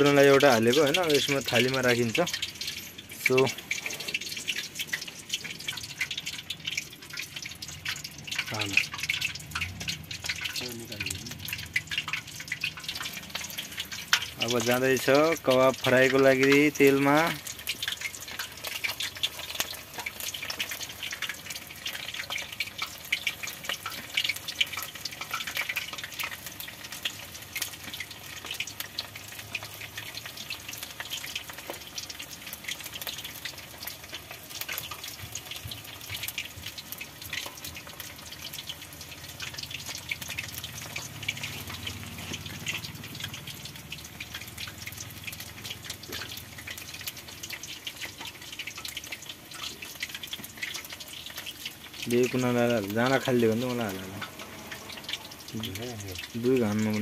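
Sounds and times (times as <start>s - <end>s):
meat deep-frying in hot oil: 0.0s - 57.0s.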